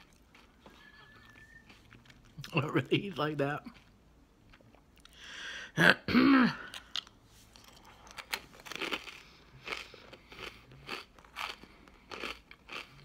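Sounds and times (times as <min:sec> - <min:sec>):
fortune cookie crunching: 0:00.0 - 0:05.2, 0:06.6 - 0:13.0.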